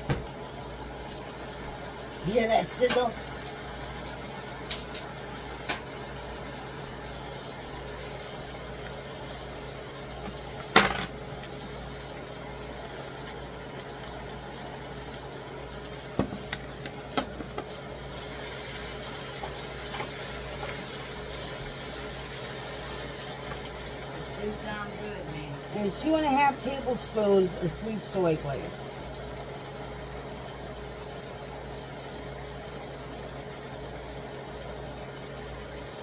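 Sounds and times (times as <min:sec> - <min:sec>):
food sizzling in a skillet: 0:00.0 - 0:36.0
low steady hum: 0:00.0 - 0:36.0.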